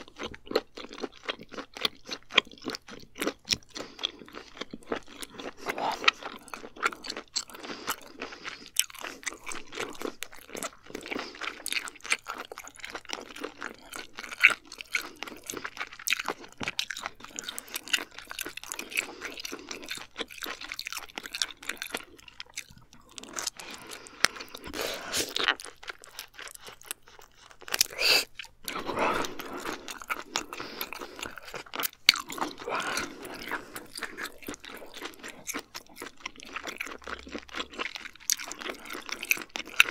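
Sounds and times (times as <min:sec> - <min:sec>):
person chewing wet mouth sounds: 0:00.0 - 0:39.9.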